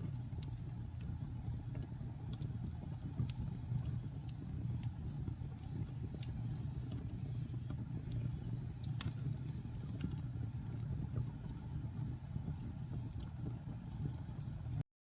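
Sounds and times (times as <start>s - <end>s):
wood fire crackling: 0.0s - 14.8s
sharp pops and snaps: 0.2s - 14.3s.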